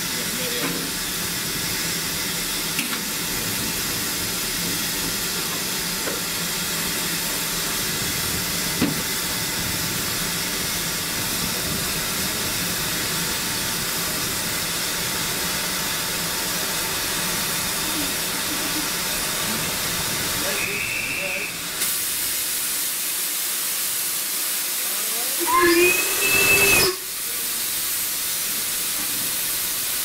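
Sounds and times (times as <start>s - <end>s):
steam hissing from locomotive: 0.0s - 30.0s.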